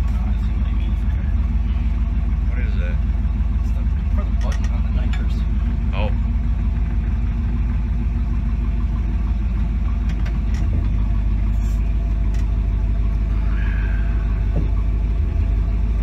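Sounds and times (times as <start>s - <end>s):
car engine rumbling at low revs: 0.0s - 16.0s.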